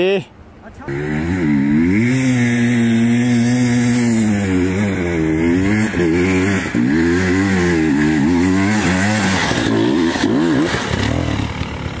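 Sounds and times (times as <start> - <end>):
dirt bike engine revving: 0.9 - 12.0.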